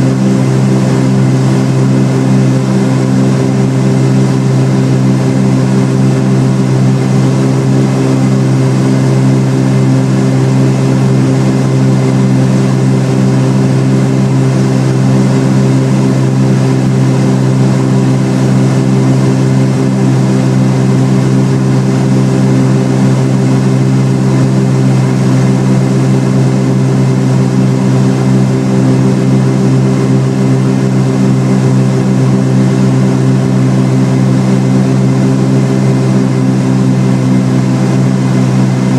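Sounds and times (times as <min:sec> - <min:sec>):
propeller plane engines droning: 0:00.0 - 0:38.9.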